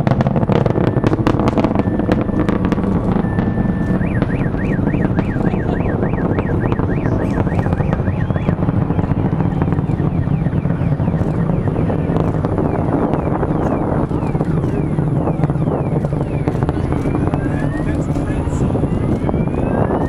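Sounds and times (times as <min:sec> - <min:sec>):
car alarm wailing: 0:00.0 - 0:20.0
distant rocket rumble: 0:00.0 - 0:20.0.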